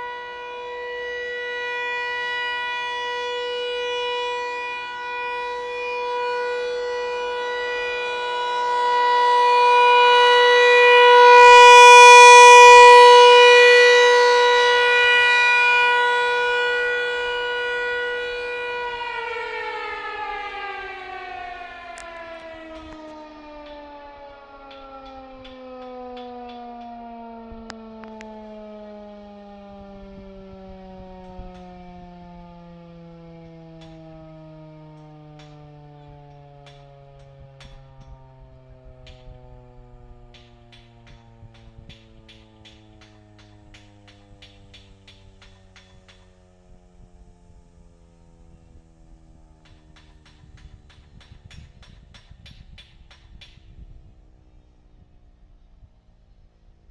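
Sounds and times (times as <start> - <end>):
outdoor warning siren: 0.0 - 56.9.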